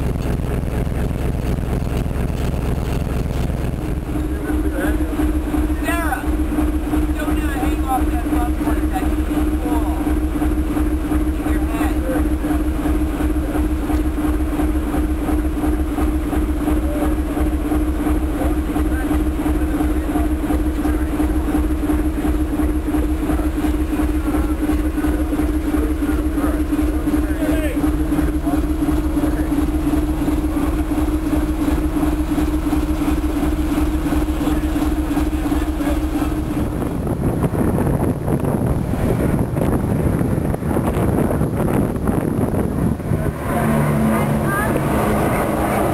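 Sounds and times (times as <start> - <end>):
boat engine running: 0.0 - 45.9
rough rushing noise: 0.0 - 45.9.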